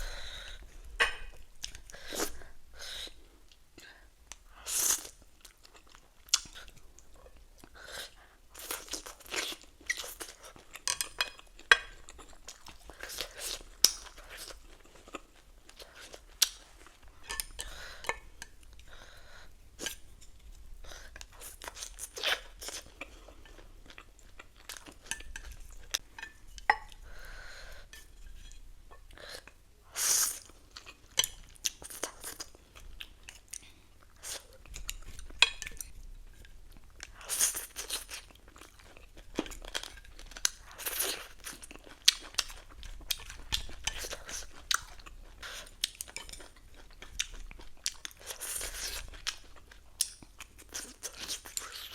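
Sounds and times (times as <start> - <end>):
chewing and crunching food: 5.0 - 19.0, 19.8 - 27.3, 30.3 - 51.9.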